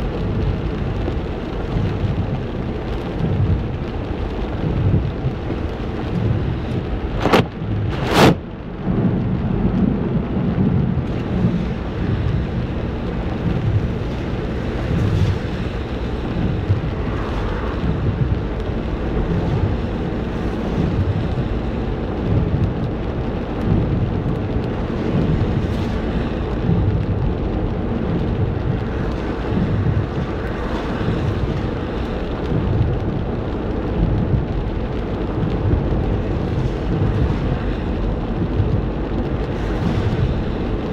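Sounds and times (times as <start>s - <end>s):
heavy rain: 0.0s - 40.9s
low rumbling: 0.0s - 40.9s.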